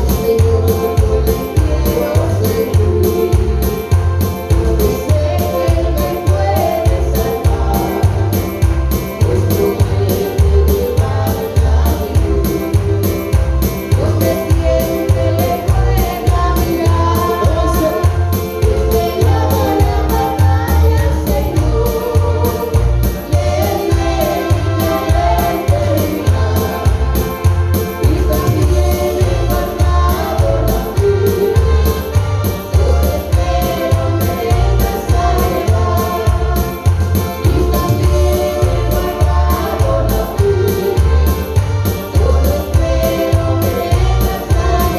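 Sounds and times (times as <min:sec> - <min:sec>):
music with steady bass beat: 0:00.0 - 0:44.9
voices singing gospel song: 0:00.0 - 0:44.9.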